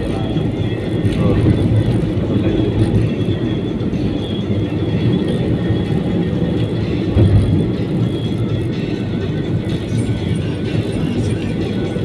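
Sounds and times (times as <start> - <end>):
low rumble of moving vehicle: 0.0 - 12.0.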